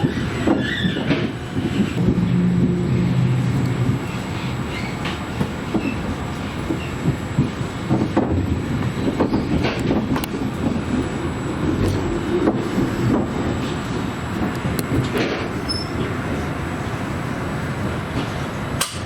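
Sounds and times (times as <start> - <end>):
wheels clicking on rails: 0.0 - 16.2
train rumbling: 0.0 - 19.0.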